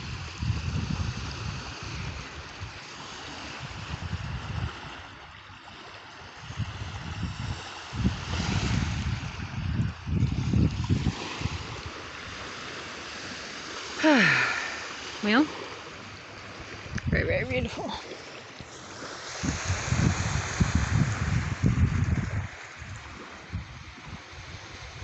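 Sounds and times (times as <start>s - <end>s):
ocean surf washing: 0.0s - 25.0s
wind buffeting microphone: 0.0s - 25.0s.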